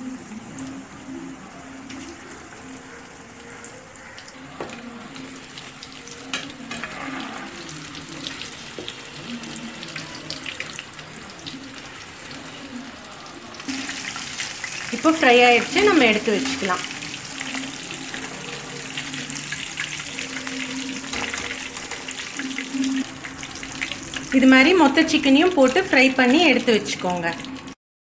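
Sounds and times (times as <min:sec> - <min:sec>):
food deep-frying in oil: 0:00.0 - 0:27.8.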